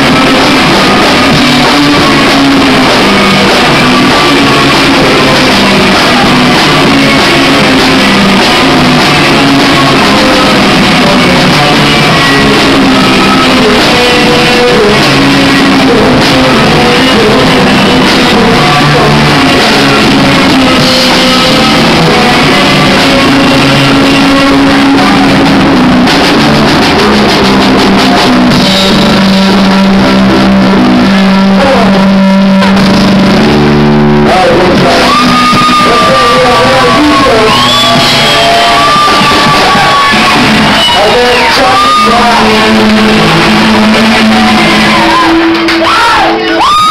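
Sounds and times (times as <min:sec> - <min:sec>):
bass guitar: 0:00.0 - 0:46.9
distorted electric guitar: 0:00.0 - 0:46.9
drum kit: 0:00.0 - 0:46.9
live rock band playing: 0:00.0 - 0:46.9.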